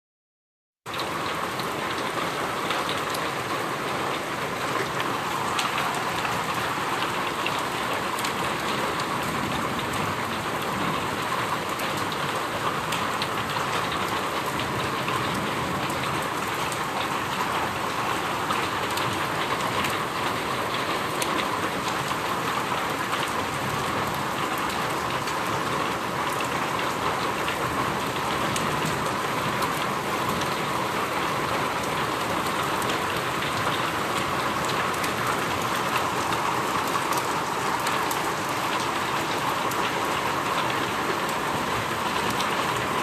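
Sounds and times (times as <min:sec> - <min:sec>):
raindrops ticking on a surface: 0:00.9 - 0:43.0
steady rain falling: 0:00.9 - 0:43.0.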